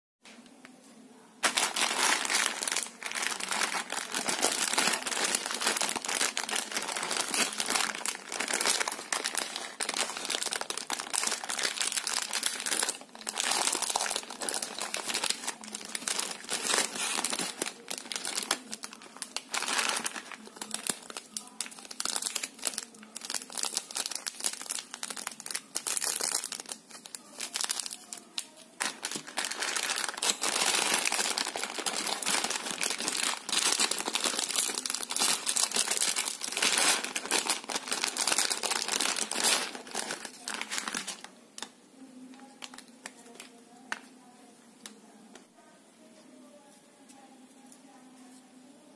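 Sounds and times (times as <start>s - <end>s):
plastic packets crinkling: 1.4s - 41.7s, 42.3s - 44.0s.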